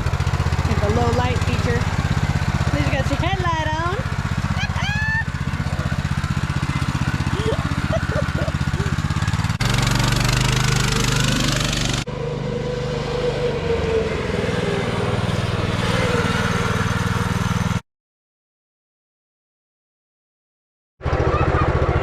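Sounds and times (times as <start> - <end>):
mini bike engine running: 0.0 - 17.8, 21.0 - 22.0.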